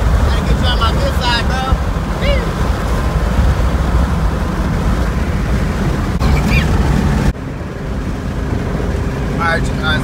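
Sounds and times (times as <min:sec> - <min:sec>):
deep exhaust rumble: 0:00.0 - 0:10.0.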